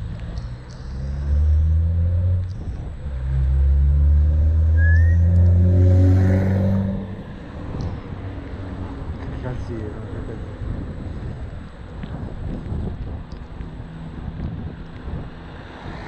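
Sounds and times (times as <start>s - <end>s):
vehicle engine accelerating: 0.0s - 16.0s.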